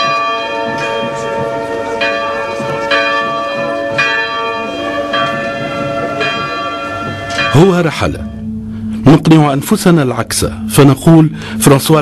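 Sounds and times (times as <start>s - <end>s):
church bell tolling: 0.0s - 12.0s.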